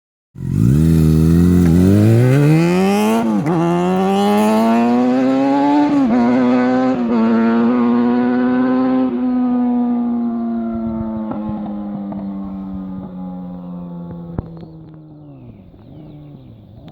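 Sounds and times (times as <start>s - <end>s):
motorcycle engine accelerating: 0.4s - 16.9s.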